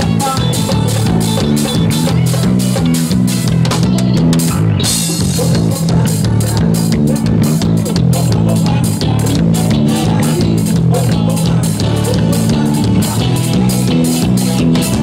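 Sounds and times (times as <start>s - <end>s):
bass line: 0.0s - 15.0s
drum beat: 0.0s - 15.0s
guitar: 0.0s - 15.0s.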